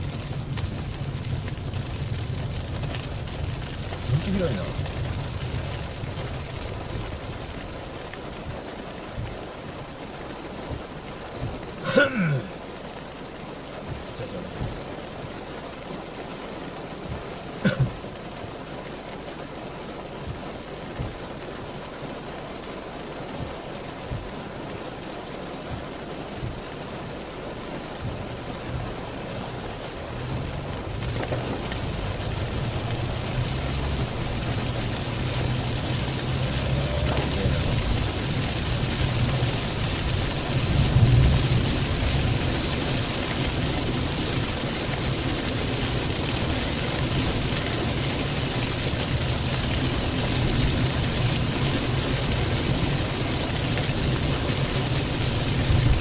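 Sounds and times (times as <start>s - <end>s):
heavy rain falling: 0.0s - 56.0s
low engine hum: 0.0s - 56.0s.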